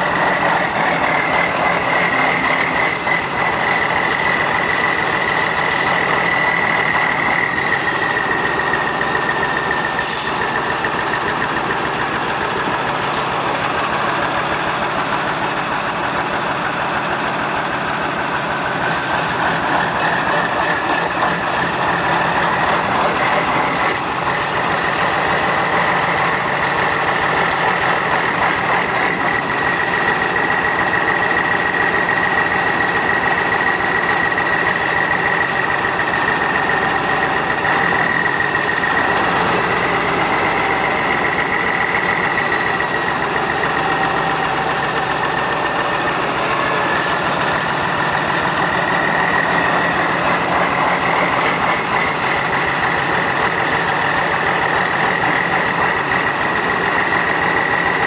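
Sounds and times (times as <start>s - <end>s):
diesel truck engine under load: 0.0s - 58.0s.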